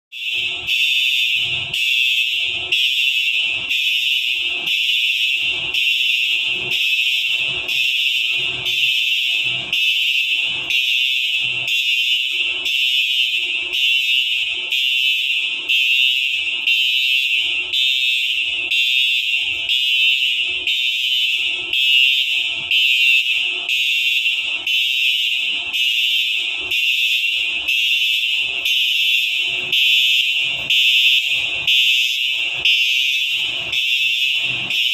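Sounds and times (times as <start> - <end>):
shrill pulsing fire alarm: 0.1 - 34.9.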